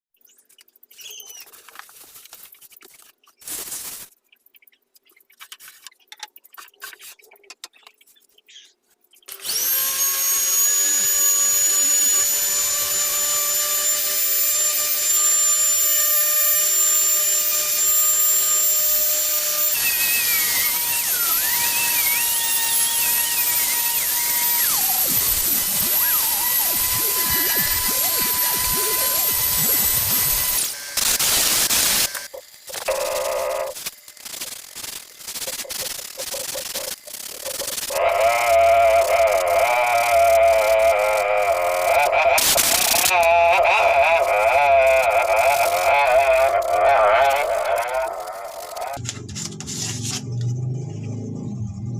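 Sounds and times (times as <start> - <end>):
electric power tool whining: 9.3 - 51.3.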